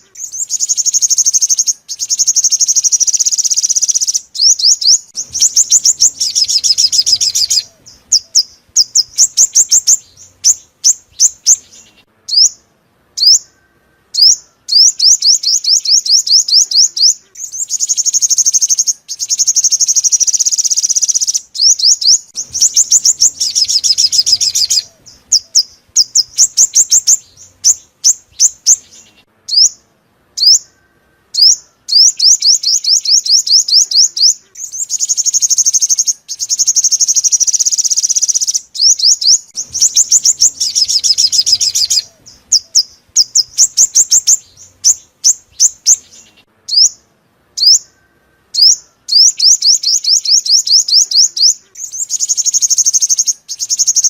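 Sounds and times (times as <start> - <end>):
sunbird song with buzzy trills: 0.0 - 54.0.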